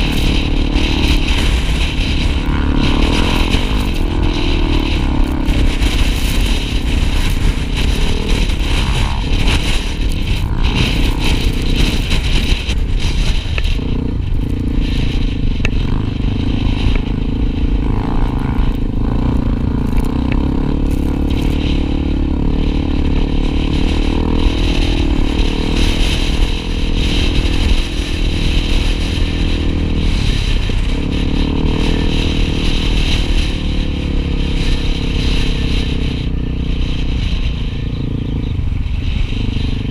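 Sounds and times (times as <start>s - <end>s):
motorcycle engine running: 0.0s - 39.9s
rough noise: 0.0s - 39.9s.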